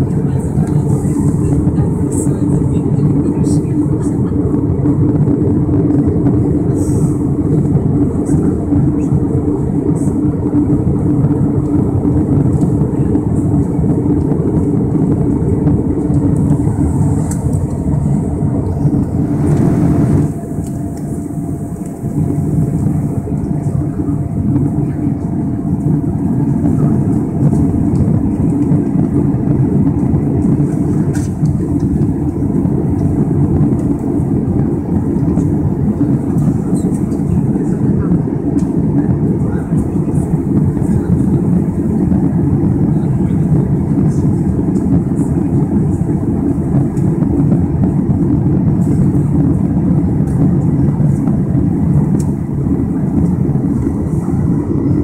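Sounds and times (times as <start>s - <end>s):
airplane cabin engine rumble: 0.0s - 55.0s
faint steady whine: 0.0s - 55.0s.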